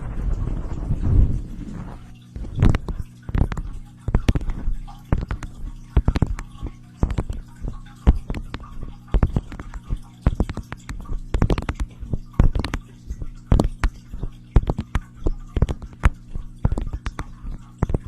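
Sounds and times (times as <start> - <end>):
low electrical hum: 0.0 - 18.0
taps and clicks on microphone: 2.4 - 18.0.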